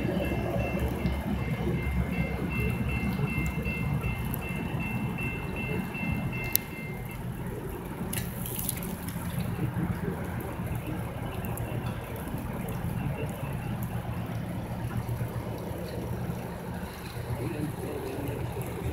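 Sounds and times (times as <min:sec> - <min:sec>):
drops ticking: 0:00.0 - 0:18.9
low steady rumble: 0:00.0 - 0:18.9
rain and sleet hiss: 0:00.0 - 0:18.9.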